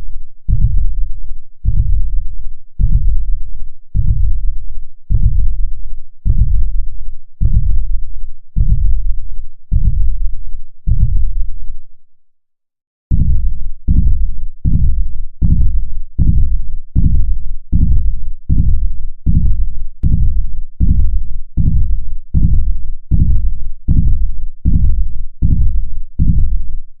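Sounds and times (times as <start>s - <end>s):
heartbeat thumps: 0.5s - 5.6s, 6.2s - 6.8s, 7.4s - 8.0s, 8.6s - 11.5s, 13.1s - 26.7s.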